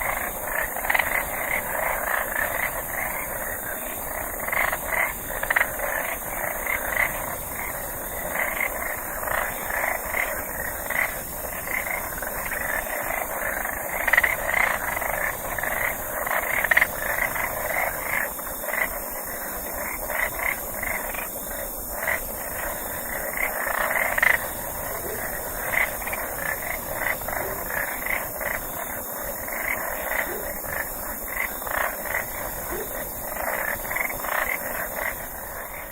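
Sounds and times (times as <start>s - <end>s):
frogs croaking: 0.0s - 35.9s
steady high hiss: 0.0s - 35.9s.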